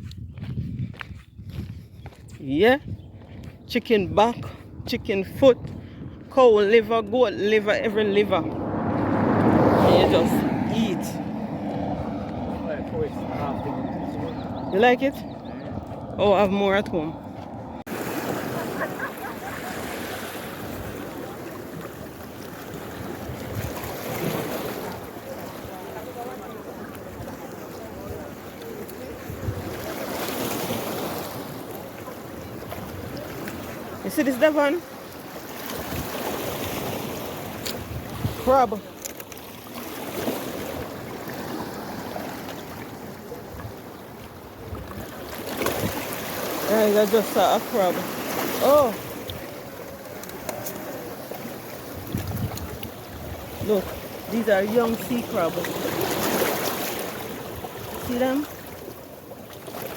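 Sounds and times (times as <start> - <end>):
wind buffeting microphone: 0.0 - 39.2, 39.8 - 58.4
surf washing on beach: 6.2 - 59.9.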